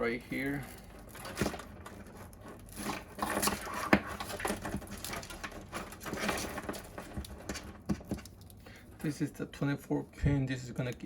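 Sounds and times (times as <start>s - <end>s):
cables rustling and scraping: 0.0s - 11.0s.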